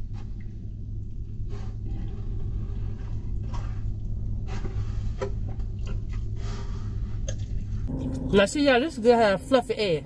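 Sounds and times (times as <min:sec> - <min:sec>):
low rumble inside car: 0:00.0 - 0:10.0.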